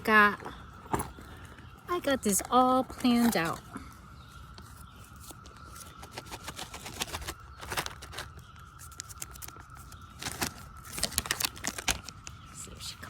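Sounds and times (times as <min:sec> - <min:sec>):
distant cicada chorus: 0:00.0 - 0:13.0
rustles and crinkles of handling: 0:00.0 - 0:13.0.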